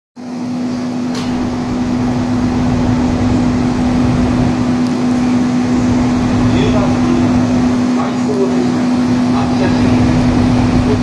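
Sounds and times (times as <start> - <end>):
electric locomotive hum: 0.2 - 11.0
fan-like whoosh: 1.0 - 11.0.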